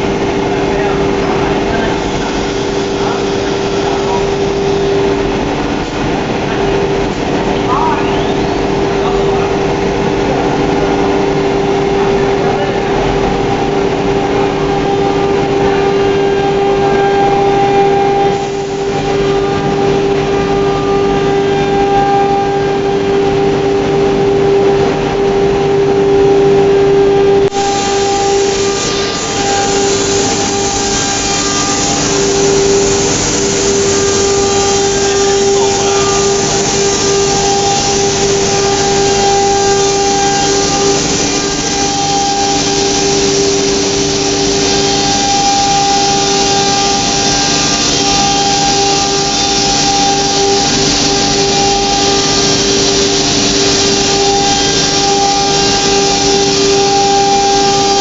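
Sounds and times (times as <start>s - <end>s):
cutter hissing through board: 0.0s - 24.6s, 25.5s - 58.0s
router spindle whine: 0.0s - 58.0s.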